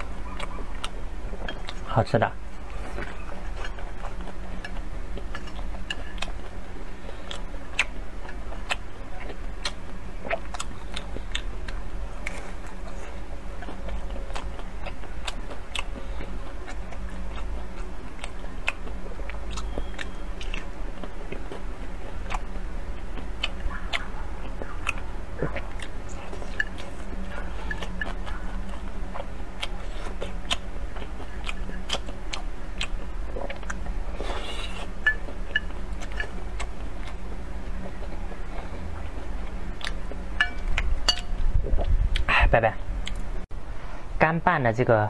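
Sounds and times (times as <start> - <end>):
person chewing buns: 0.0 - 42.3, 42.9 - 43.5.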